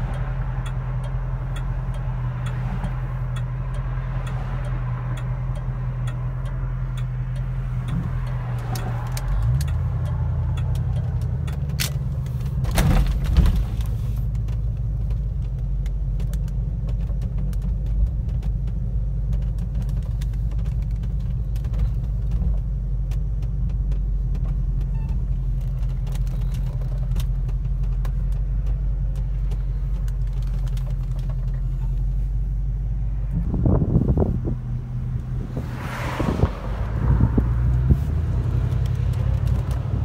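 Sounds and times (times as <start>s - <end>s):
car engine running at low revs: 0.0s - 40.0s.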